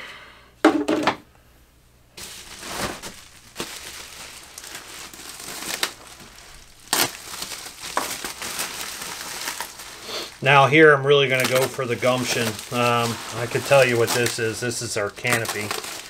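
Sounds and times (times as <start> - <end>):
plastic wrapping crinkling: 2.2 - 16.0.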